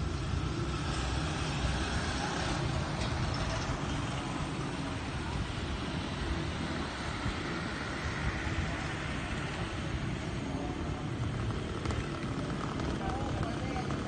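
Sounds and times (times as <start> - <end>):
vehicle engines and road noise: 0.0 - 14.0.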